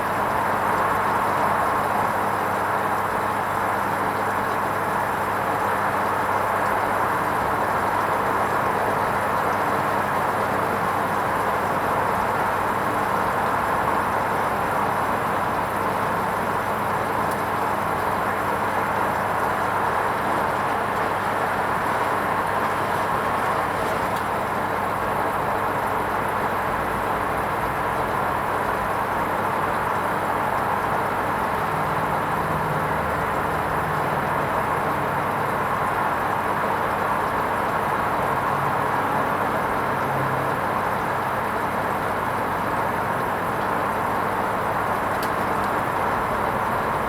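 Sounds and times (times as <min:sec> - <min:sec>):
washing machine running: 0:00.0 - 0:47.0.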